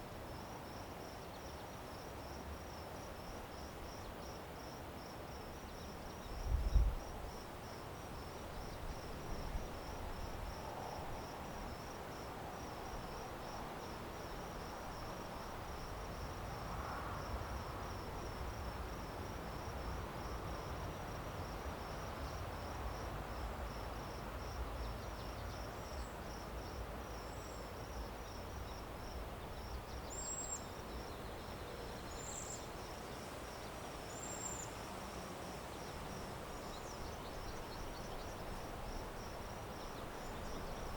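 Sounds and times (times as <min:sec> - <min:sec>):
crickets chirping: 0:00.0 - 0:40.9
outdoor background rush: 0:00.0 - 0:40.9.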